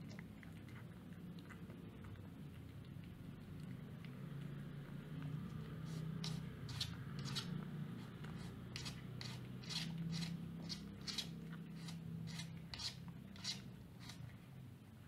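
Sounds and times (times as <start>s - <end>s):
cat licking food off metal plate: 0.0s - 14.5s
low steady hum: 0.0s - 15.0s.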